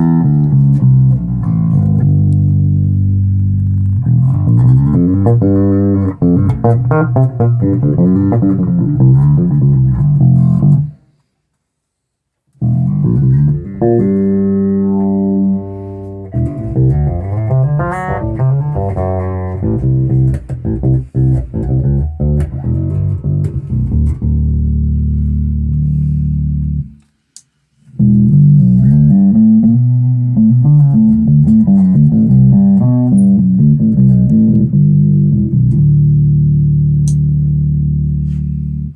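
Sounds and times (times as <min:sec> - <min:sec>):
electric bass plucked notes: 0:00.0 - 0:11.0, 0:12.6 - 0:27.0, 0:28.0 - 0:38.9.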